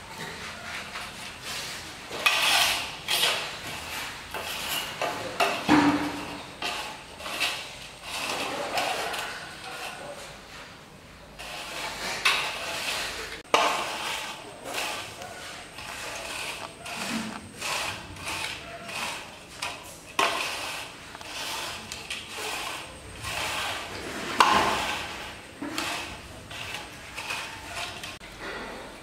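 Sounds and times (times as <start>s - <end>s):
metal straightedge scraping mortar: 0.3s - 10.2s, 11.4s - 28.2s.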